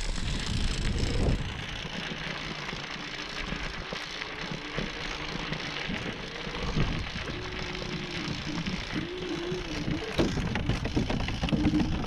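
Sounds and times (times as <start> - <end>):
scooter rattling over grass: 0.0 - 12.0.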